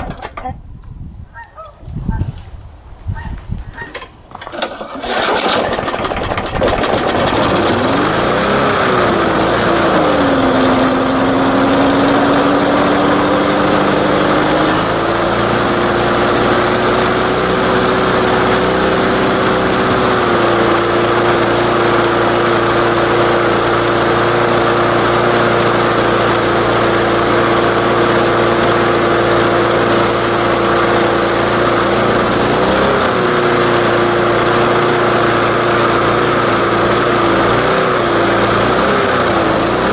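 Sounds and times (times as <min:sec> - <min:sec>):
lawn mower engine running: 0:03.7 - 0:39.9.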